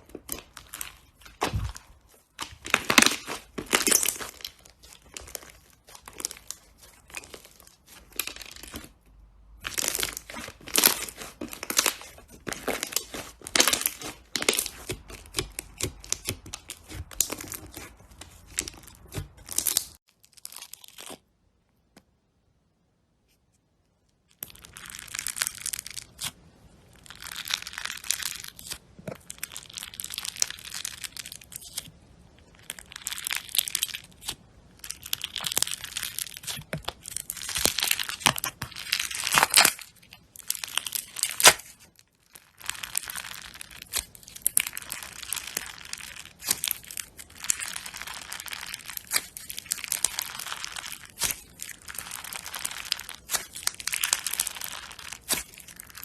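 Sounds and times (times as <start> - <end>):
slime crackling and popping: 0.0 - 21.4, 24.2 - 56.0.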